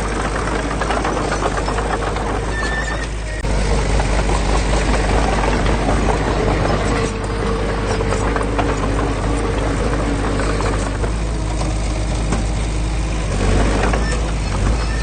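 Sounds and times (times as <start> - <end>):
diesel engine rumbling: 0.0 - 15.0
engine whine: 0.0 - 15.0.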